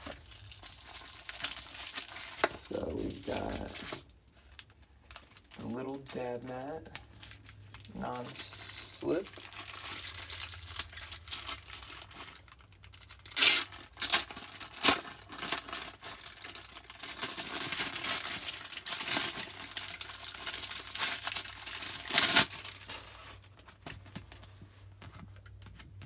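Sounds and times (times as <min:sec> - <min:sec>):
plastic bag crinkling and tearing: 0:00.0 - 0:24.5.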